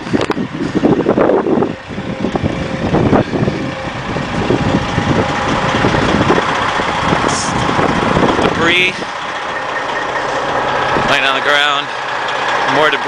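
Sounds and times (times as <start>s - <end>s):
wind buffeting microphone: 0.0s - 11.4s
distant tornado sirens: 0.0s - 13.0s.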